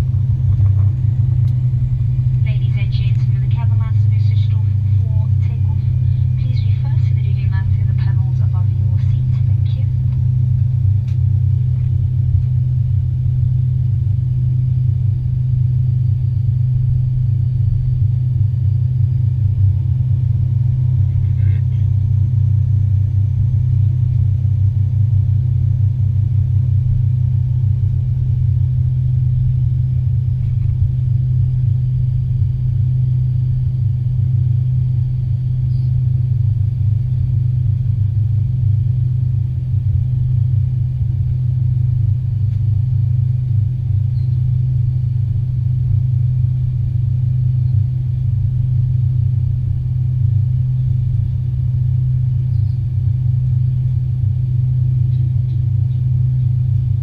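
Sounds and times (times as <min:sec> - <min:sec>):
airliner cabin engine drone: 0:00.0 - 0:57.0
faint high whine: 0:00.0 - 0:57.0.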